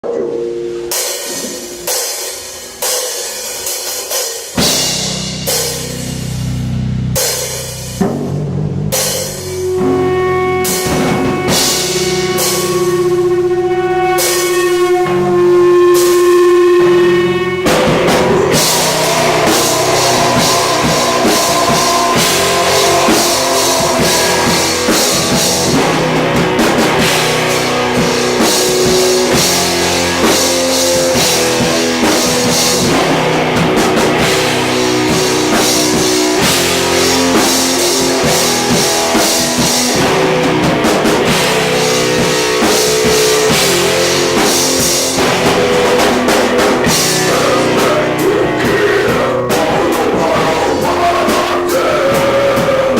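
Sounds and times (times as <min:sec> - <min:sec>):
rock band playing live: 0:00.0 - 0:52.9.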